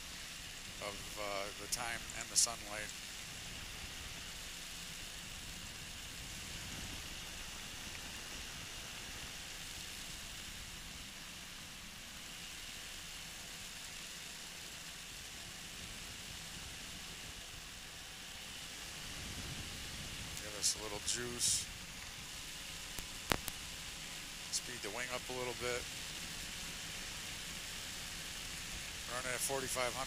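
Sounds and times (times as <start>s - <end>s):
microlight engine and wind noise: 0.0s - 30.0s.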